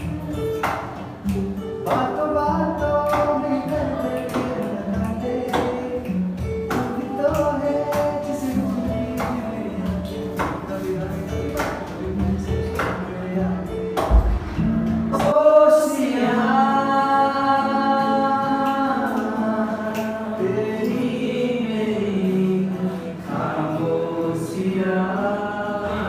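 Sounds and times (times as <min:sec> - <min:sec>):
acoustic guitar: 0:00.0 - 0:26.0
men singing together: 0:01.8 - 0:14.5, 0:15.1 - 0:26.0.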